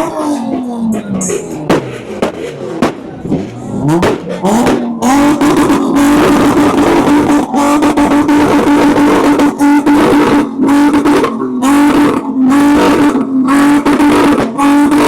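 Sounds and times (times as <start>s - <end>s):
car engines revving: 0.0s - 15.0s
sharp cracks: 0.5s - 15.0s.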